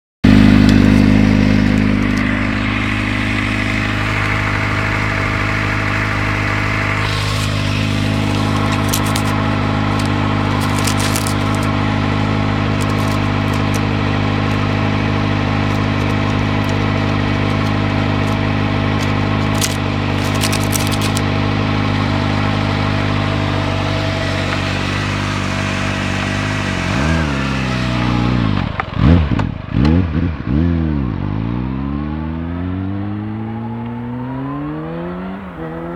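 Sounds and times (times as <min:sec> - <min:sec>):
motorcycle engine idling and revving: 0:00.2 - 0:35.9.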